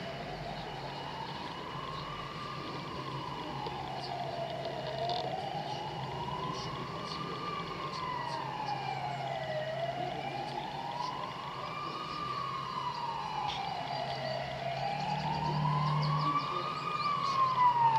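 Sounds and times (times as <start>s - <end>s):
siren wailing: 0.0s - 17.9s.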